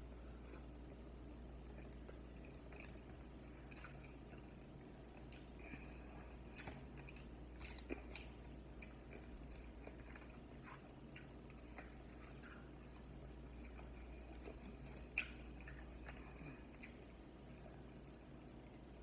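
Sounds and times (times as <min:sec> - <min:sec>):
faint chewing with mouth smacks: 0:00.0 - 0:19.0.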